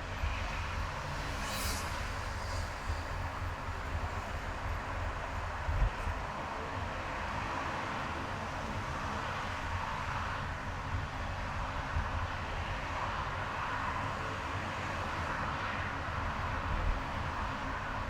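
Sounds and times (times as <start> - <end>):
road and tyre noise: 0.0 - 18.0.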